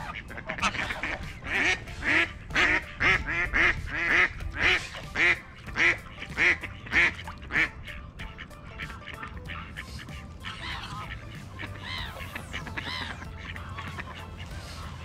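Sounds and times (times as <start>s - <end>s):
waterfowl nasal calls: 0.0s - 15.0s.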